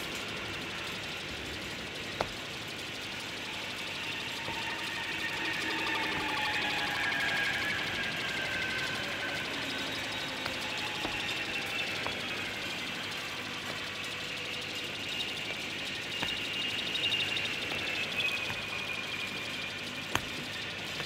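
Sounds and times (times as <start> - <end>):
hydraulic crane whine: 0.0 - 21.0.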